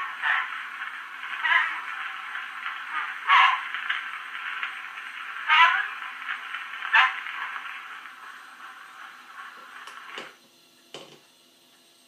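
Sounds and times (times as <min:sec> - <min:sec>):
phonograph surface hiss: 0:00.0 - 0:12.0.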